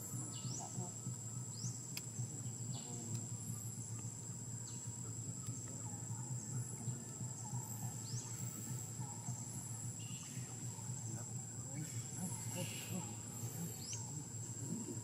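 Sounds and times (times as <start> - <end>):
insects high-pitched whine: 0.0 - 15.0
low steady rumble: 0.0 - 15.0.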